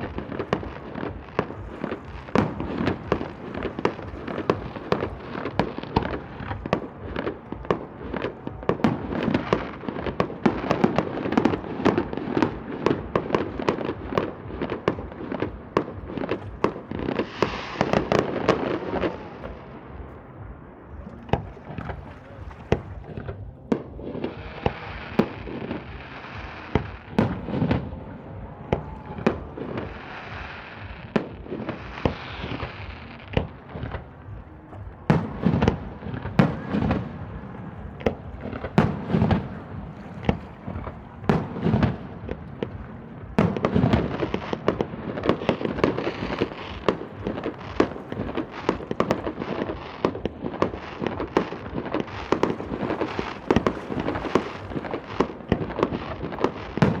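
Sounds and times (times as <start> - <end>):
fireworks bangs: 0.0 - 57.0
fireworks crackling and hissing: 0.0 - 57.0.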